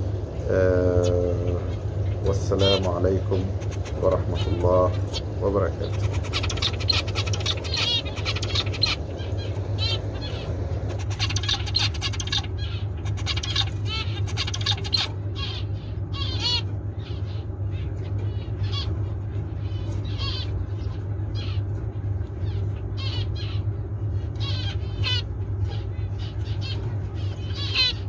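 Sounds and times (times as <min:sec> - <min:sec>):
finches calling: 0:00.0 - 0:28.0
steady low hum: 0:00.0 - 0:28.0.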